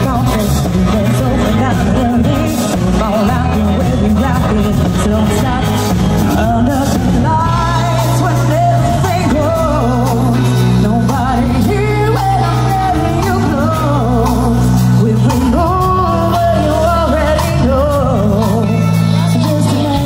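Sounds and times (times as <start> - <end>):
drums: 0.0 - 20.0
electric guitars: 0.0 - 20.0
keyboard: 0.0 - 20.0
low bass notes: 0.0 - 20.0
woman singing lead: 0.0 - 20.0.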